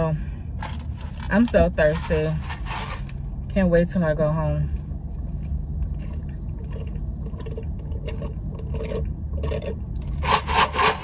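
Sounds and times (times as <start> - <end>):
car driving rumble from inside: 0.0 - 10.2.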